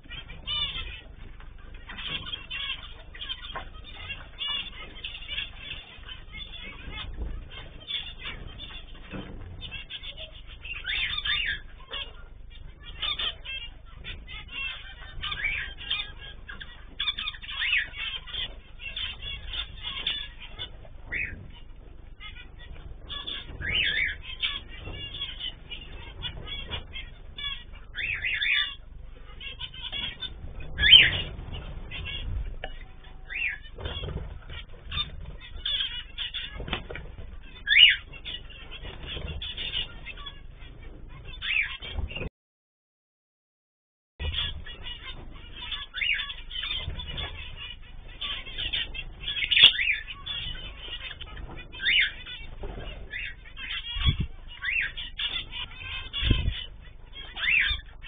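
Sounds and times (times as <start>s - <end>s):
finches chirping: 0.0s - 42.3s, 44.2s - 58.0s.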